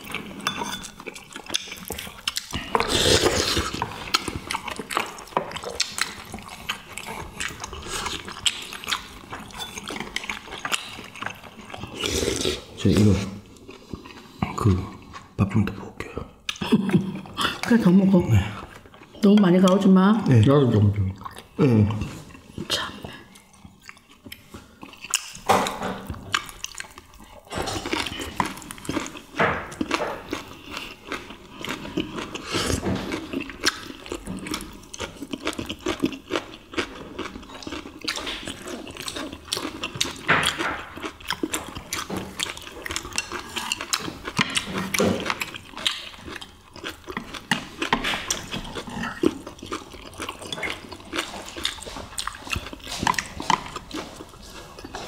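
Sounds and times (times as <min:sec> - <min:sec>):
people chewing wet food: 0:00.0 - 0:55.0.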